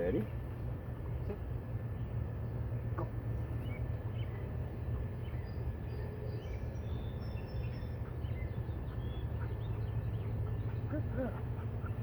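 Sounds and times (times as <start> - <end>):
low outdoor rumble: 0.0 - 12.0
small birds chirping: 0.0 - 12.0.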